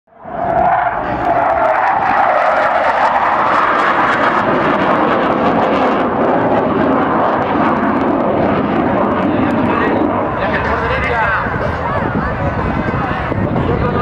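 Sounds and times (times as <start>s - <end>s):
jet roaring past: 0.1s - 14.0s.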